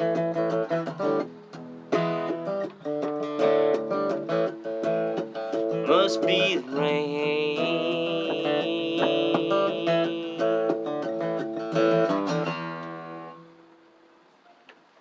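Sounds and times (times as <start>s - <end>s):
acoustic guitar picking: 0.0s - 13.8s.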